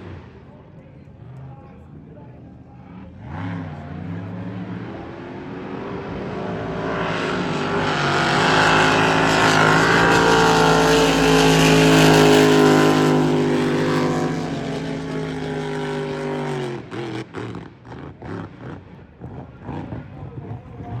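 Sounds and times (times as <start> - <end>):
race boat engines passing: 0.0 - 21.0.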